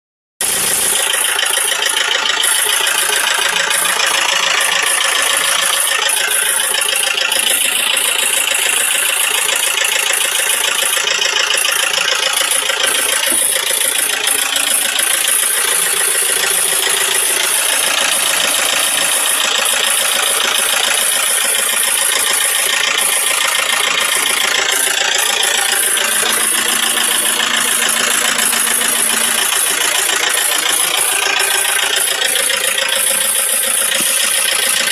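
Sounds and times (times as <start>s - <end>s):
diesel engine metallic clatter: 0.4s - 34.9s.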